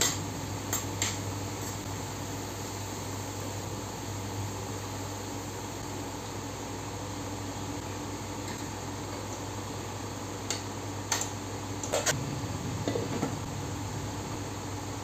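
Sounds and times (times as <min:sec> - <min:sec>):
induction cooktop hum: 0:00.0 - 0:15.0.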